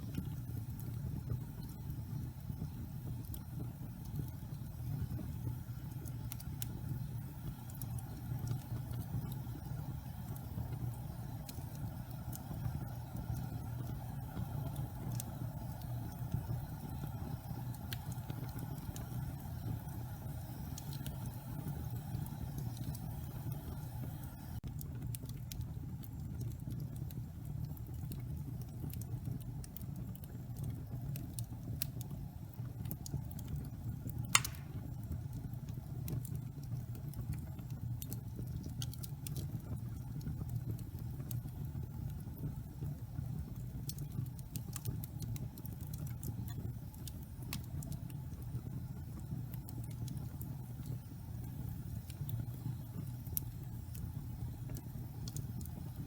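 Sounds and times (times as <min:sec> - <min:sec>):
low fire rumble: 0:00.0 - 0:56.0
wood fire snaps and pops: 0:00.0 - 0:56.0.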